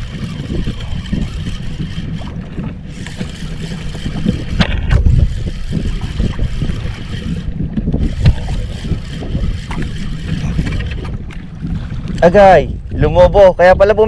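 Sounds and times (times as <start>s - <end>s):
water sloshing against boat hull: 0.0s - 13.2s
wind buffeting microphone: 0.0s - 14.0s.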